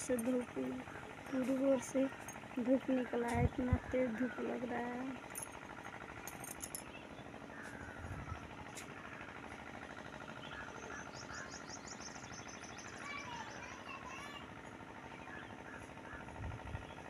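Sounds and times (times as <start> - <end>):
birds chirping and calling: 0.0 - 5.1, 6.6 - 9.4, 10.1 - 14.4, 15.1 - 17.0.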